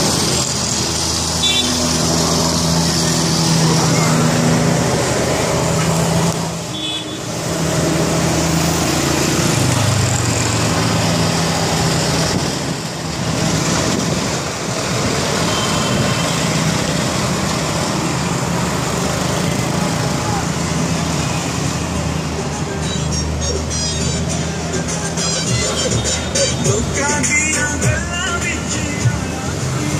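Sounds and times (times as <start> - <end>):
road noise: 0.0 - 29.9.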